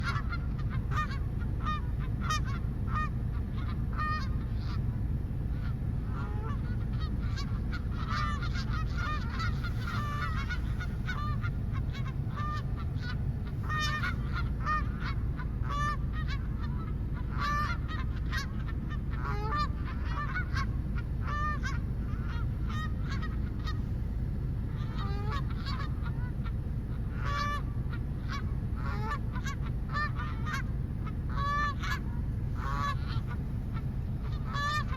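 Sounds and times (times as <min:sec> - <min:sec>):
geese honking: 0:00.0 - 0:34.9
low background rumble: 0:00.0 - 0:34.9.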